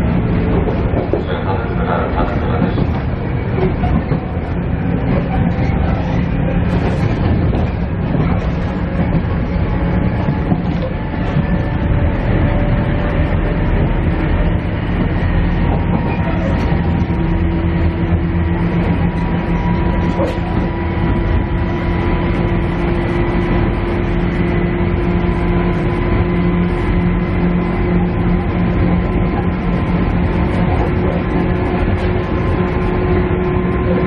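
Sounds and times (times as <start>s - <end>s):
diesel engine drone: 0.0s - 34.0s
wheels rumbling on rail: 0.0s - 34.0s.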